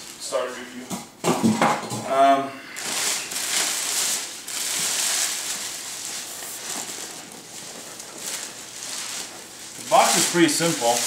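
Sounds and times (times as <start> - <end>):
plastic sheeting crinkling: 0.0 - 0.8, 2.7 - 11.0.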